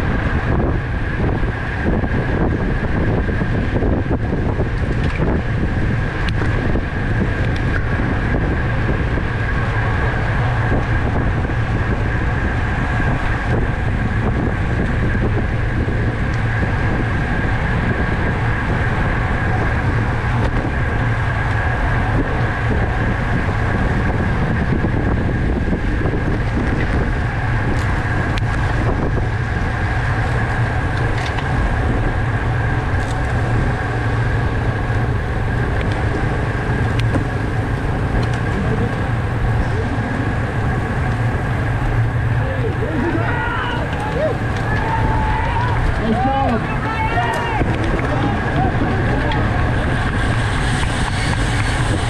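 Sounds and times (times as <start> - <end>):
bicycle running hum: 0.0 - 52.0
wind rushing over microphone: 0.0 - 52.0.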